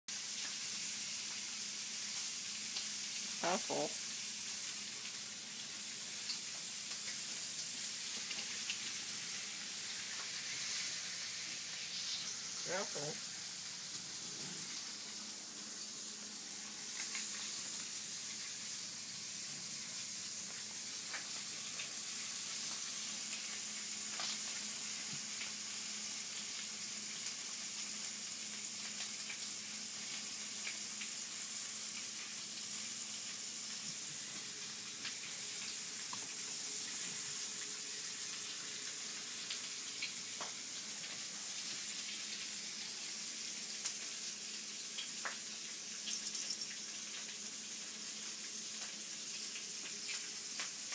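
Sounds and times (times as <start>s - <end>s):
bacon sizzling with pops: 0.1s - 50.9s.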